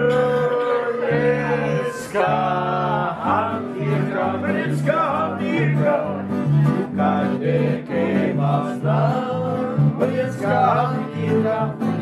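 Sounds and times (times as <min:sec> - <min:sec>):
acoustic guitar strumming: 0:00.0 - 0:12.0
folk song sung live: 0:00.0 - 0:12.0.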